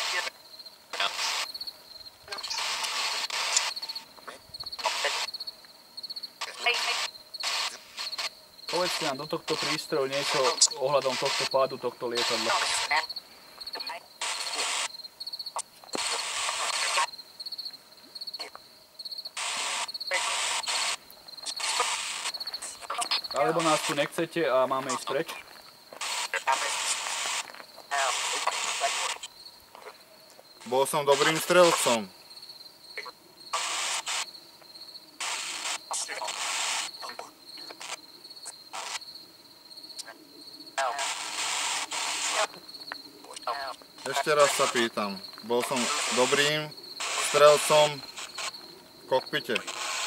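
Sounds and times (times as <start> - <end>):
hissing static bursts: 0.0 - 5.5, 6.2 - 17.2, 19.2 - 30.0, 30.6 - 32.2, 33.0 - 34.4, 35.0 - 39.2, 40.0 - 50.0
crickets chirping: 0.0 - 50.0.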